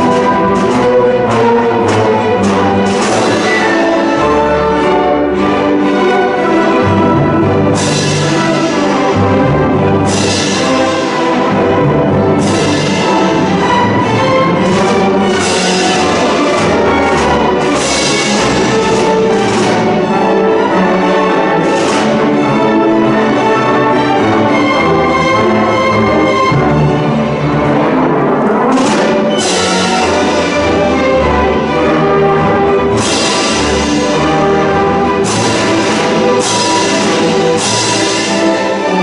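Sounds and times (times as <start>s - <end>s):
orchestra playing classical music: 0.0s - 39.0s.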